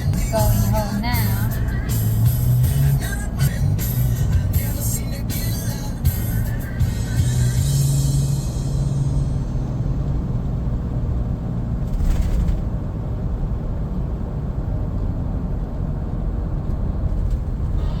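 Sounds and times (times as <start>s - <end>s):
car road rumble: 0.0s - 18.0s.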